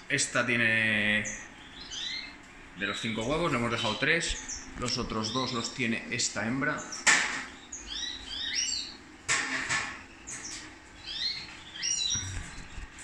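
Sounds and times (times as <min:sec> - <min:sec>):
finches chirping: 0:00.2 - 0:13.0.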